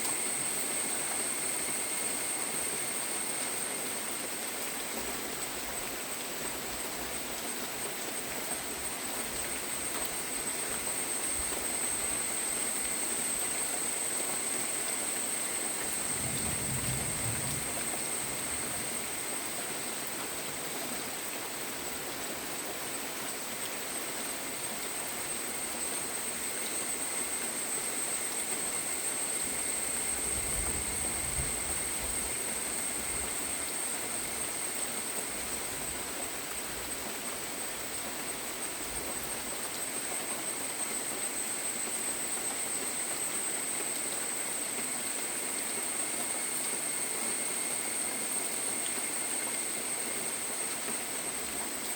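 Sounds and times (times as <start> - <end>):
rain hiss: 0.0 - 51.9.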